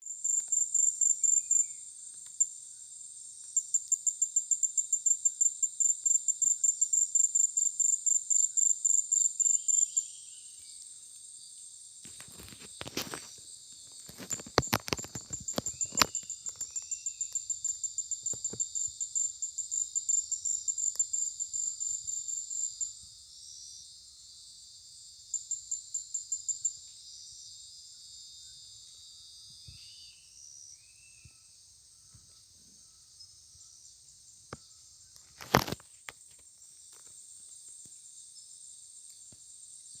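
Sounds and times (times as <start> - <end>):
cricket chirping in rapid pulses: 0.0 - 40.0
high-pitched insect drone: 0.0 - 40.0.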